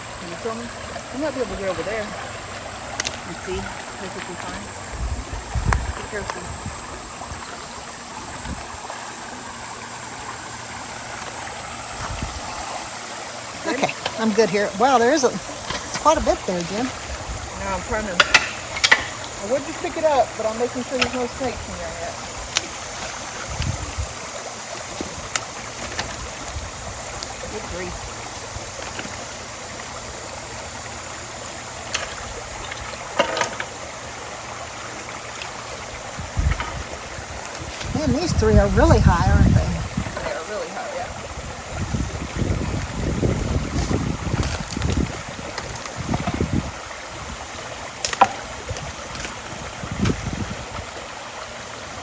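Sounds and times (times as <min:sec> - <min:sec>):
wind rumbling on microphone: 0:00.0 - 0:33.1, 0:33.7 - 0:52.0
creek water rushing through culvert: 0:00.0 - 0:52.0.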